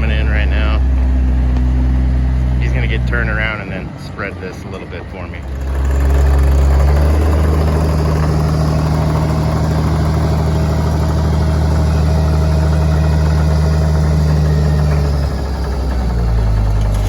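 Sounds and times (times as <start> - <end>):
dump truck diesel engine: 0.0 - 17.0.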